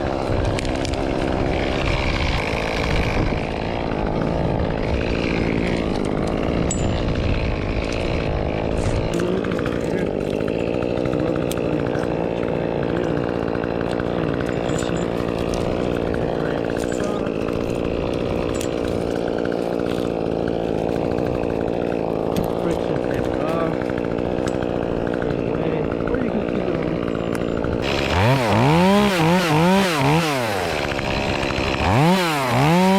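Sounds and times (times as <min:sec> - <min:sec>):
chainsaw running: 0:00.0 - 0:32.9.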